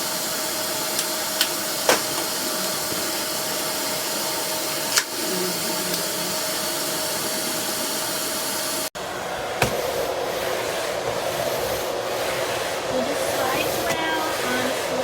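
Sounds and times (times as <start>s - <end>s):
vacuum cleaner motor running: 0.0s - 15.0s.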